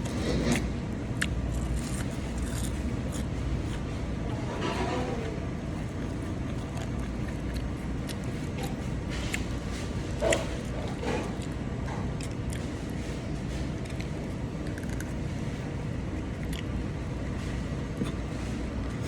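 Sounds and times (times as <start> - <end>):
chewing and mouth sounds: 0.0 - 19.0.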